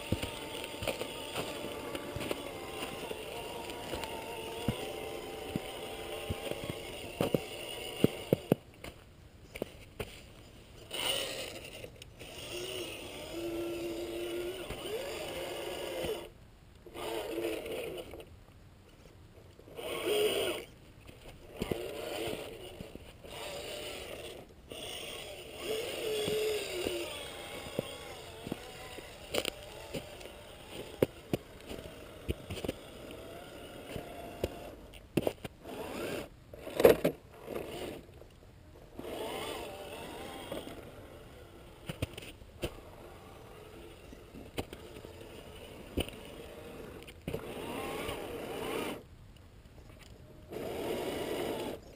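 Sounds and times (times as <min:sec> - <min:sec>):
electric motor and gears whining: 0:00.0 - 0:09.0, 0:10.8 - 0:18.3, 0:19.6 - 0:49.1, 0:50.0 - 0:51.9
tires scraping over snow and rock: 0:00.0 - 0:18.3, 0:18.9 - 0:49.1, 0:50.4 - 0:51.9.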